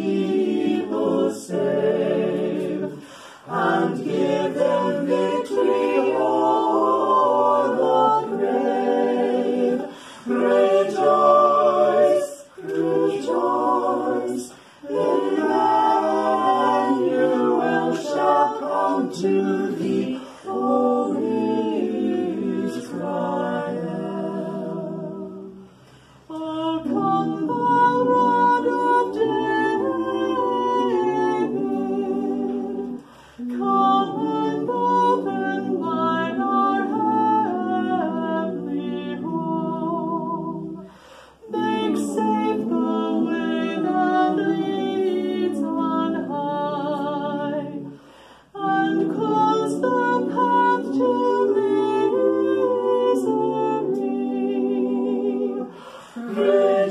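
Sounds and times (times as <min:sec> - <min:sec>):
a cappella ensemble singing: 0:00.0 - 0:56.9.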